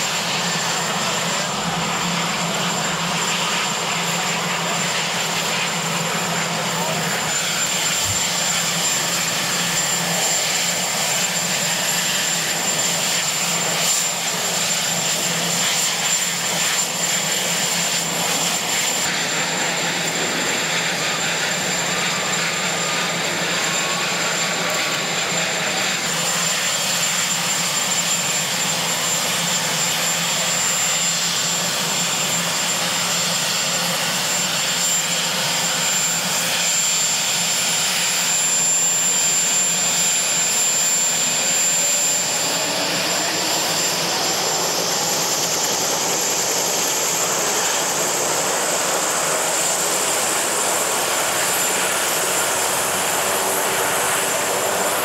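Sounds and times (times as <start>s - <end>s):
helicopter turbine and rotor noise: 0.0s - 55.0s.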